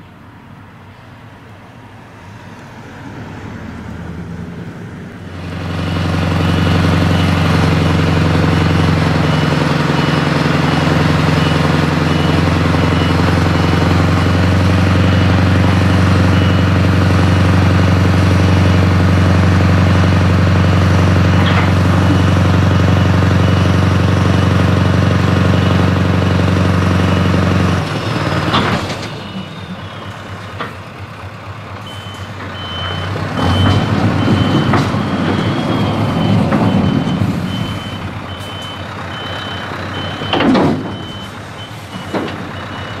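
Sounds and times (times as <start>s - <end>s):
diesel engine running loudly: 5.1s - 43.0s
reversing alarm beeping: 5.8s - 31.2s, 31.8s - 43.0s.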